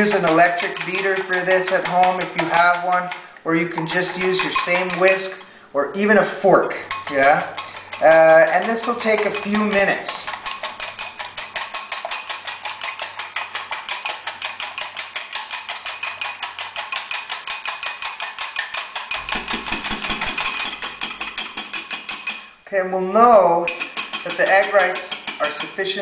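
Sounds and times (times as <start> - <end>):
whisk clicking against bowl: 0.0 - 22.5, 23.4 - 26.0.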